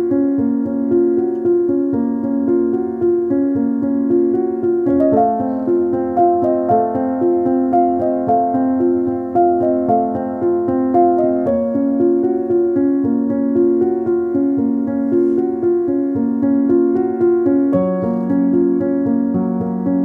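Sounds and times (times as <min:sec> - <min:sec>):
piano-like keyboard music: 0:00.0 - 0:20.0.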